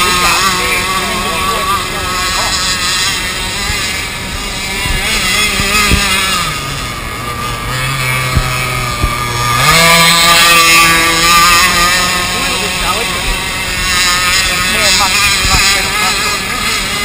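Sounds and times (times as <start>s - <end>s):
small model boat engine running: 0.0s - 17.0s.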